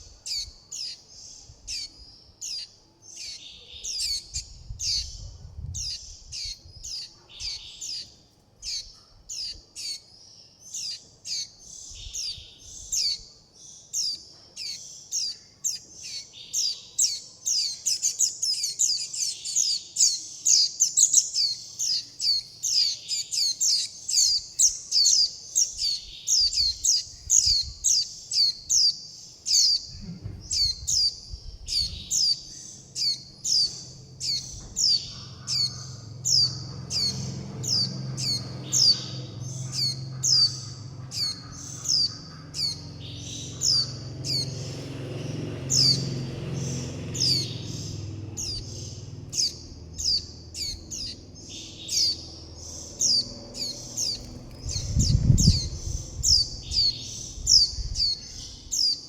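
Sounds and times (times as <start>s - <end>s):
high downward-sliding bird chirps: 0.0s - 59.0s.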